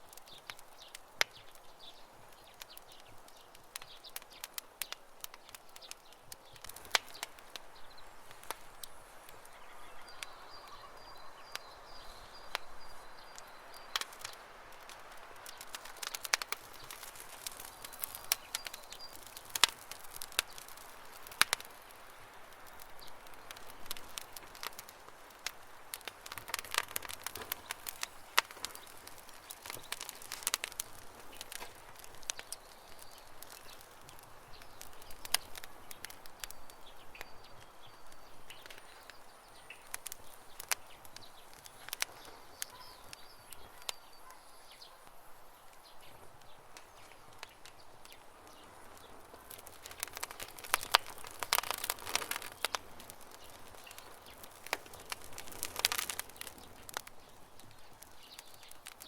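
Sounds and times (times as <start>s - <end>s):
campfire crackling: 0.0s - 59.0s
faint bird chirping: 0.2s - 59.0s.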